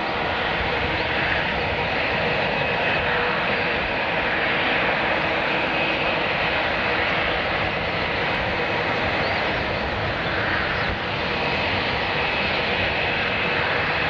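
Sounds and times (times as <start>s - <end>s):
airliner engines rushing: 0.0s - 14.0s.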